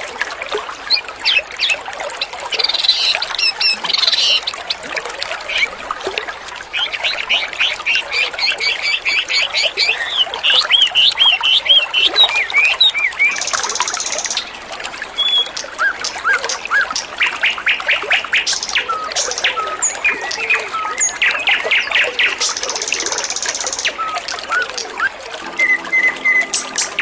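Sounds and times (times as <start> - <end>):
trickle of running water: 0.0 - 27.0
songbirds chirping and whistling: 0.9 - 5.8, 6.7 - 14.5, 15.2 - 27.0.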